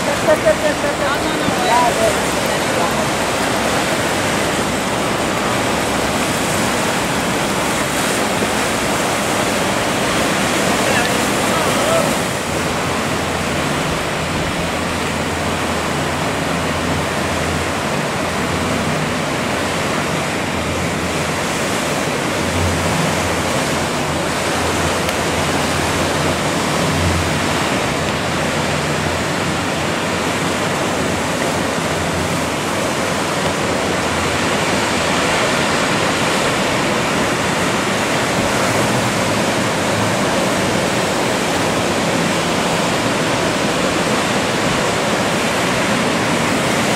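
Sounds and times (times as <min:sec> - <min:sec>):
ocean surf breaking: 0:00.0 - 0:46.9.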